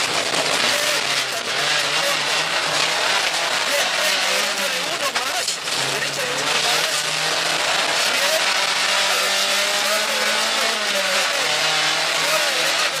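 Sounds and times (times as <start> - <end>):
rally car engine under load: 0.0 - 13.0
tyre and road noise: 0.0 - 13.0.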